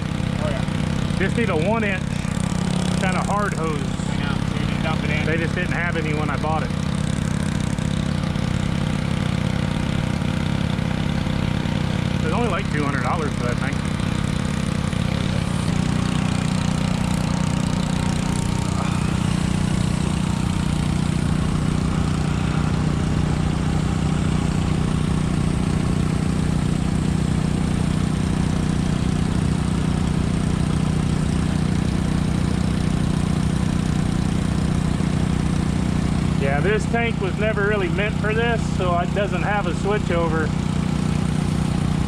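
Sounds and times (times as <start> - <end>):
small engine running steadily: 0.0 - 42.0.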